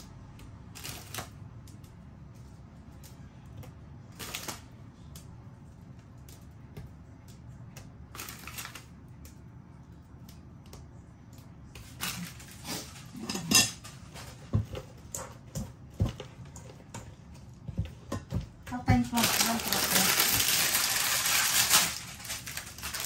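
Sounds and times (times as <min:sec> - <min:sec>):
cookies cracking: 0:00.0 - 0:18.4, 0:19.1 - 0:23.0
low steady hum: 0:00.0 - 0:23.0.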